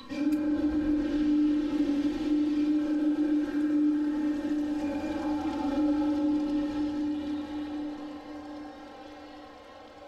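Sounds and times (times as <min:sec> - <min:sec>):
low horn-like tone: 0:00.0 - 0:08.6.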